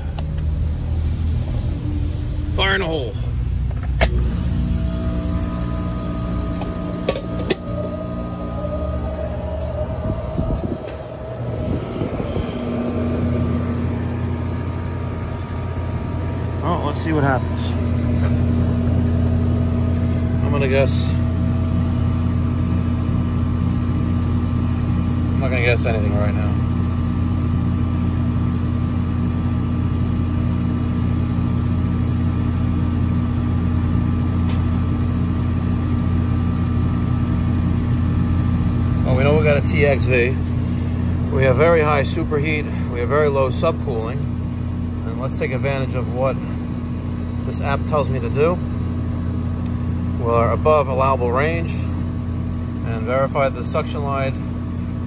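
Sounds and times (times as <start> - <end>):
air conditioner unit humming: 0.0 - 55.0.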